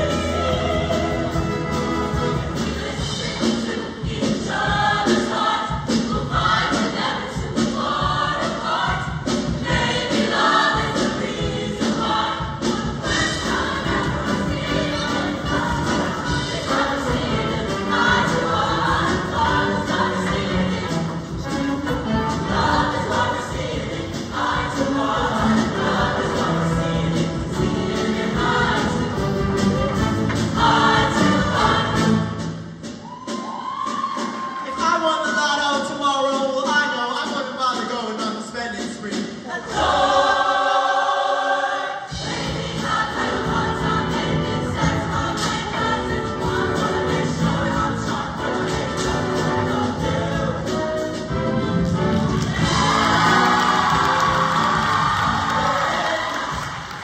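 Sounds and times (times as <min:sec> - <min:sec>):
choir singing in harmony: 0:00.0 - 0:33.4, 0:39.1 - 0:57.0
live backing band: 0:00.0 - 0:40.1, 0:42.1 - 0:57.0.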